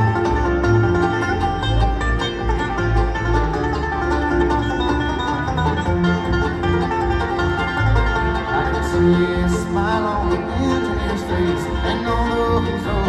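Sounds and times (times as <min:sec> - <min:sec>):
banjo picking: 0:00.0 - 0:13.0
bluegrass band playing: 0:00.0 - 0:13.0
low bass line: 0:00.0 - 0:13.0.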